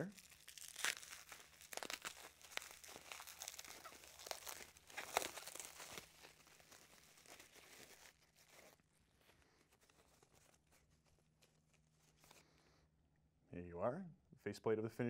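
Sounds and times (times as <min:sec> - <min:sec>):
bubble wrap crinkling: 0:00.0 - 0:12.5.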